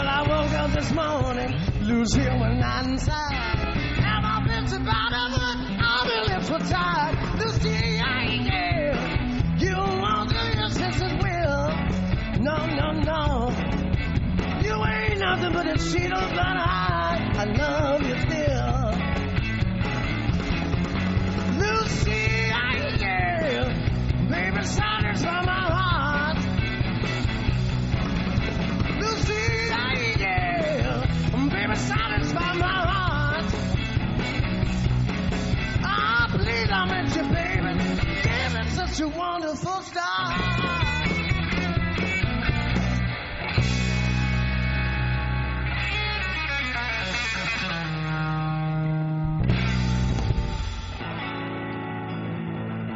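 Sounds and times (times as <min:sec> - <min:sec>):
bending lead guitar line: 0:00.0 - 0:52.9
blues-rock band playing: 0:00.0 - 0:52.9.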